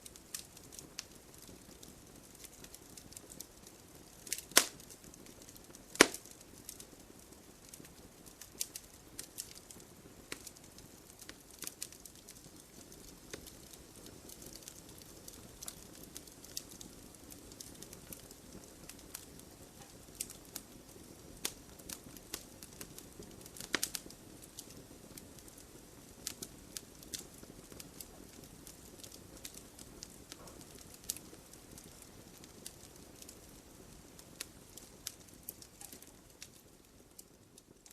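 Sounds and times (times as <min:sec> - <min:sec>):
fire crackling and popping: 0:00.0 - 0:37.9.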